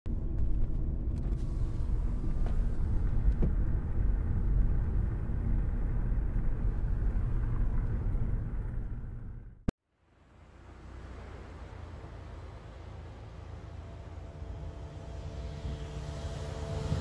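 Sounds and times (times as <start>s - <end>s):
car engine and tyre rumble: 0.1s - 17.0s.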